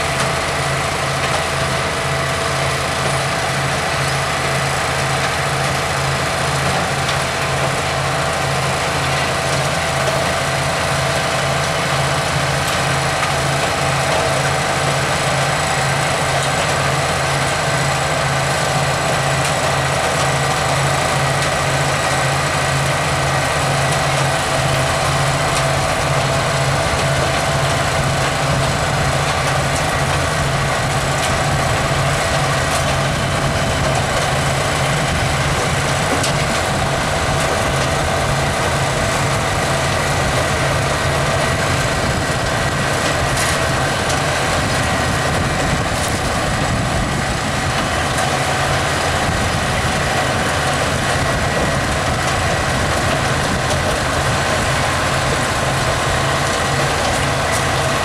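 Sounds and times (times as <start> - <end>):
tractor engine droning under load: 0.0 - 58.0.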